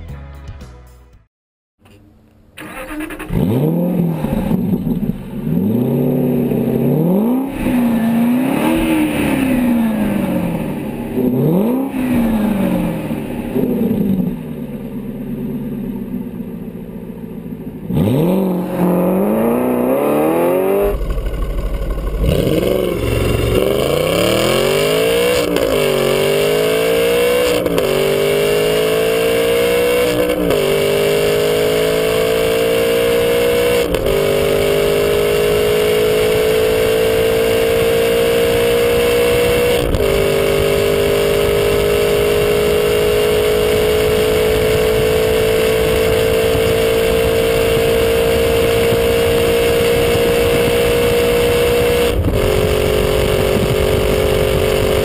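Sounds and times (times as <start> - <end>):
car engine revving and accelerating: 2.7 - 14.4, 17.7 - 55.0.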